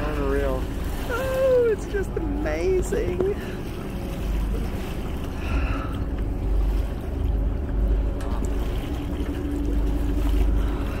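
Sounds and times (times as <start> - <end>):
boat motor hum: 0.0 - 11.0
water washing along hull: 0.0 - 11.0.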